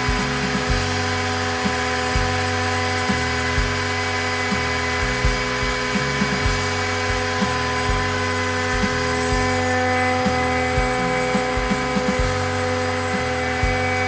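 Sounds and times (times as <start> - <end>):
drive motors humming: 0.0 - 14.0
high spindle whine: 0.0 - 14.0.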